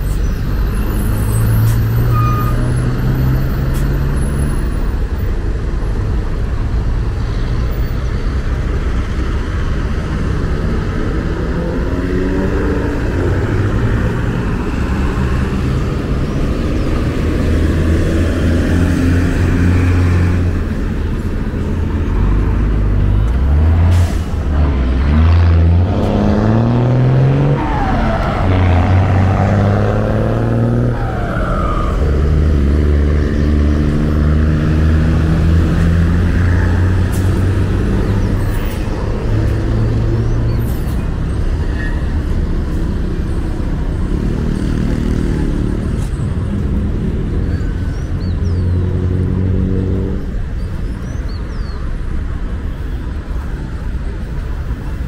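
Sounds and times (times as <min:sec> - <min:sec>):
vehicles revving and pulling away: 0:00.0 - 0:55.0.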